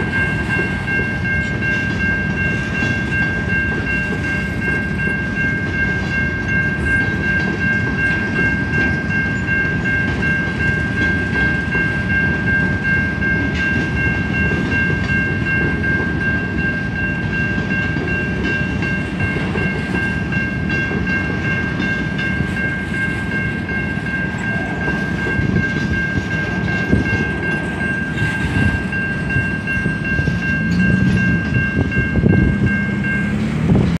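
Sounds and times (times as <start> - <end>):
crossing bell ringing: 0.0 - 34.0
freight train wheels rumbling on rail: 0.0 - 34.0.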